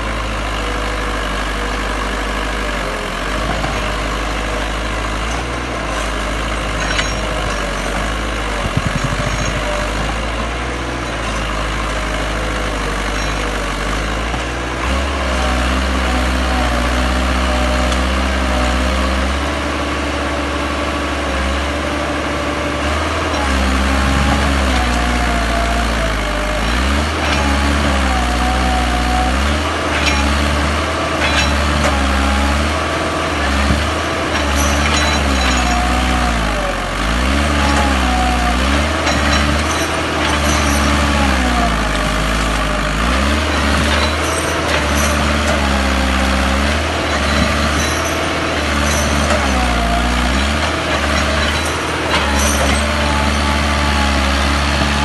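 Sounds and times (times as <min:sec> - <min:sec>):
tractor diesel engine labouring: 0:00.0 - 0:55.0.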